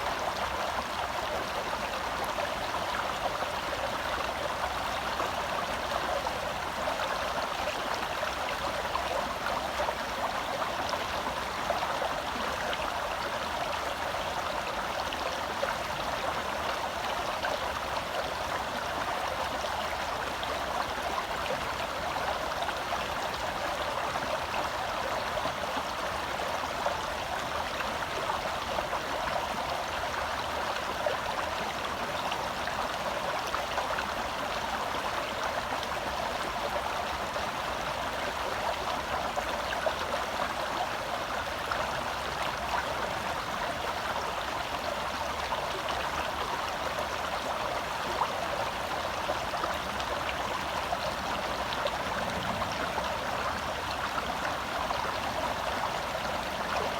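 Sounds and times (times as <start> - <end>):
stream burbling over rocks: 0.0 - 56.9.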